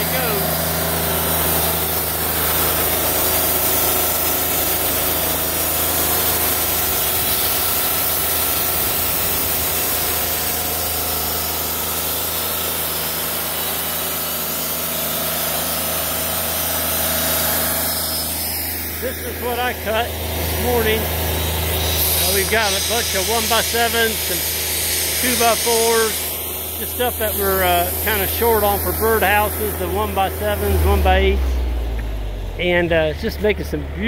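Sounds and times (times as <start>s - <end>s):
bandsaw cutting log: 0.0s - 31.8s.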